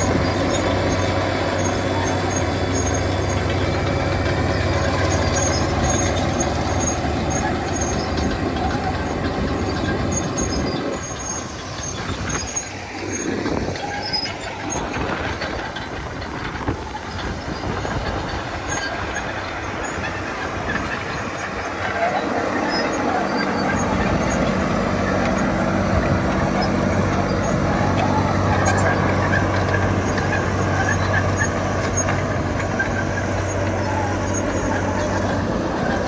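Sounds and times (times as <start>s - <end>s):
bulldozer diesel engines running: 0.0s - 36.0s.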